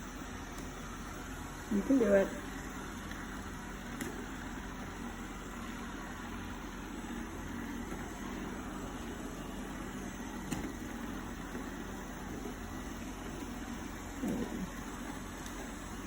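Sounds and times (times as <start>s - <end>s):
robot vacuum motor whirring: 0.2s - 16.0s.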